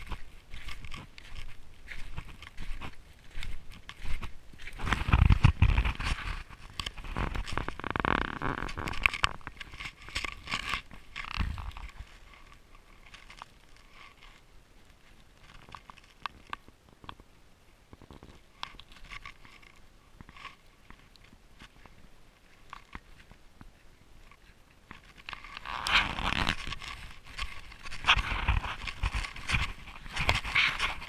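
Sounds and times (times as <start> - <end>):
footsteps crunching on snow: 0.0 - 16.7, 18.0 - 31.0.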